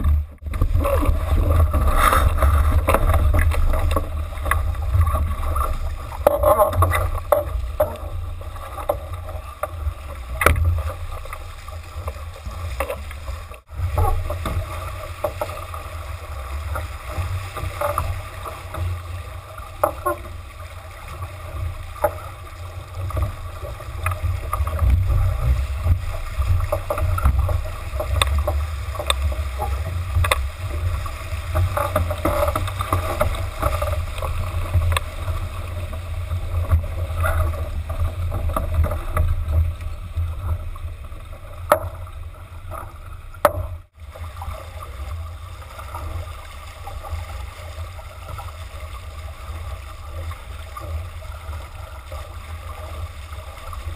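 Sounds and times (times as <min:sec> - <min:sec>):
boat knocks and clicks: 0:00.0 - 0:44.0
water rushing along boat hull: 0:00.0 - 0:53.9.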